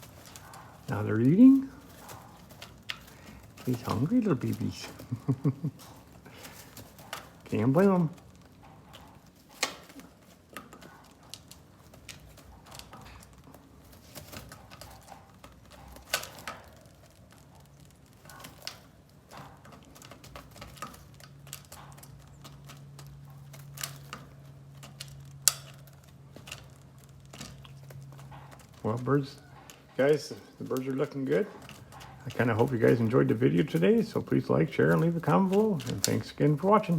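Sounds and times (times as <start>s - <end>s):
pigeons pecking at grain: 0.0s - 36.9s.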